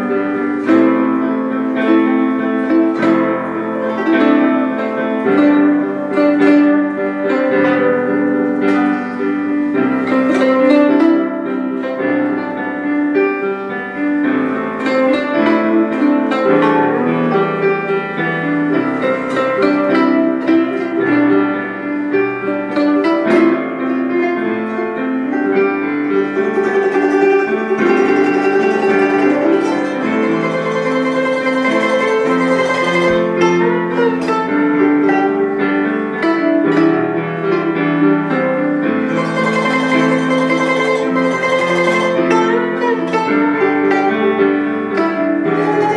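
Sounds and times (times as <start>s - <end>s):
guzheng plucked melody: 0.0s - 45.9s.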